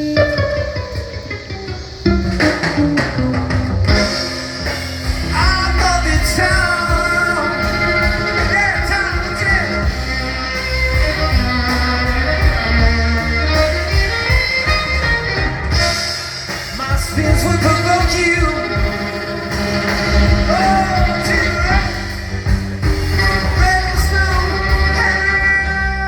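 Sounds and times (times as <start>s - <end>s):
bass line: 0.0s - 26.0s
gliding lead melody: 0.0s - 26.0s
guitar: 0.0s - 26.0s.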